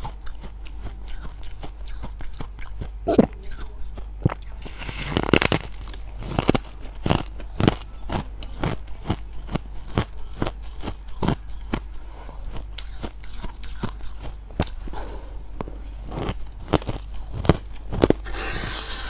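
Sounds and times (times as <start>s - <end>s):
frost being crunched and chewed: 0.0s - 15.0s, 15.6s - 19.0s
low hum: 0.0s - 19.0s.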